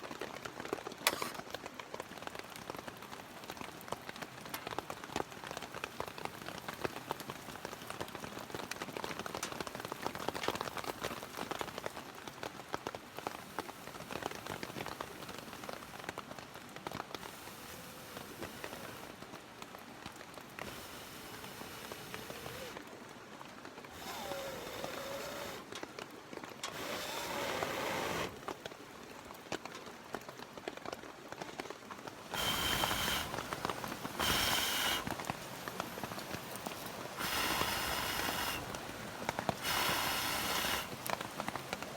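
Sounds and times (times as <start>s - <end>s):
rain patter: 0.0s - 41.9s.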